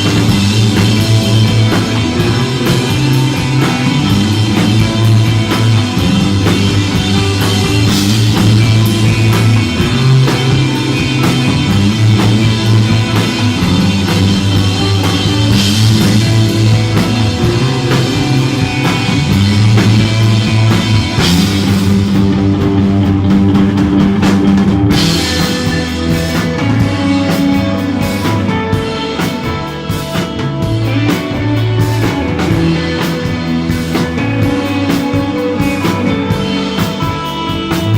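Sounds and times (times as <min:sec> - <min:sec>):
bass line: 0:00.0 - 0:37.9
drum kit: 0:00.0 - 0:37.9
electric guitar: 0:00.0 - 0:37.9.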